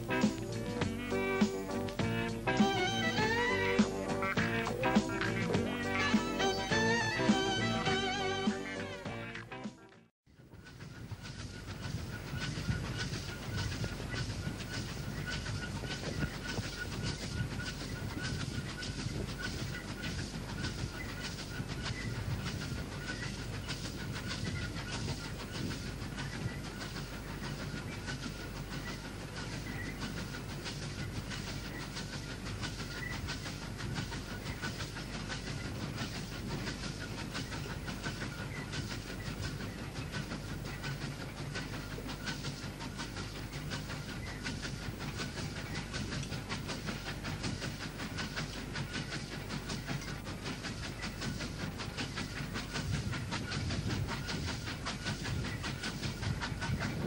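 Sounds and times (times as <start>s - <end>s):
rumble and hiss of steam: 0.0s - 9.3s, 10.4s - 57.0s
rail clatter: 0.0s - 9.8s, 10.6s - 57.0s
steam locomotive exhaust beats: 0.0s - 57.0s.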